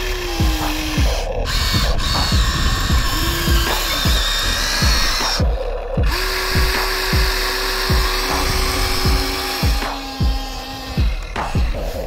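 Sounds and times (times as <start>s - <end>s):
electronic music with kick beat: 0.0s - 12.0s
toy electric motor whine: 0.0s - 12.0s.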